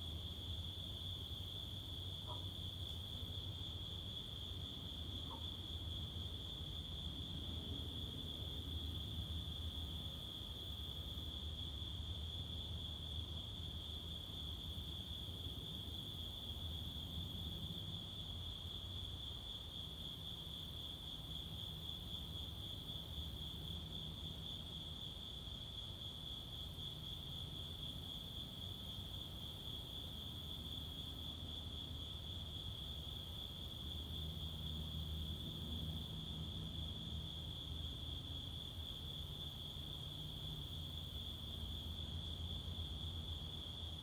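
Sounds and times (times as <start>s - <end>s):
night insects chorus: 0.0s - 44.0s.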